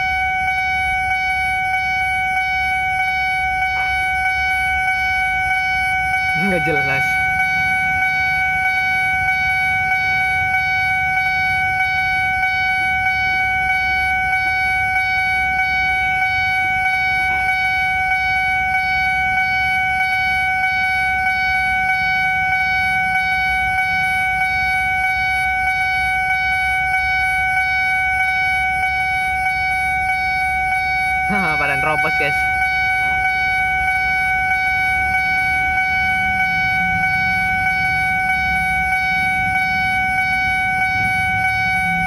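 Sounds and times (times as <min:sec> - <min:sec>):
level crossing alarm tone: 0:00.0 - 0:42.0.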